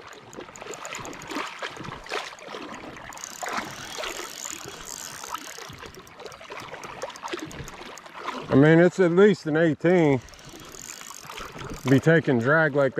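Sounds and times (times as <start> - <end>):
water sloshing from wading: 0.0 - 12.9.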